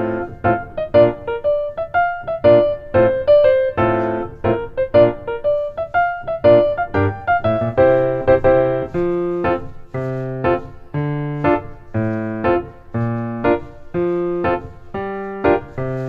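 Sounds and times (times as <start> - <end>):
piano playing chords and melody: 0.0 - 16.0.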